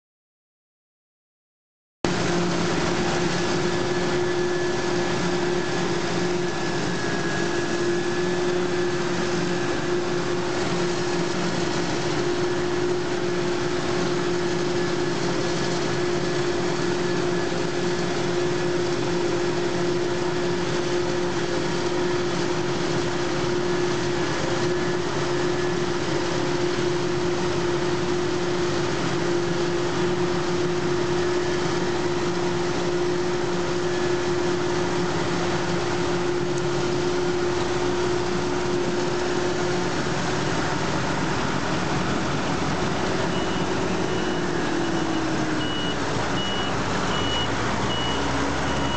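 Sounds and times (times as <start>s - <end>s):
forage harvester droning: 2.1s - 48.9s
tractor engines running: 2.1s - 48.9s.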